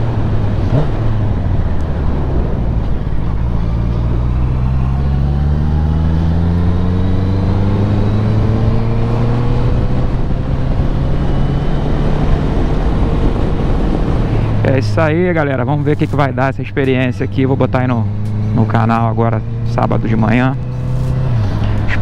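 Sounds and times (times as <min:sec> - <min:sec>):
motorcycle engine revving up: 0:00.6 - 0:15.0, 0:17.3 - 0:22.0.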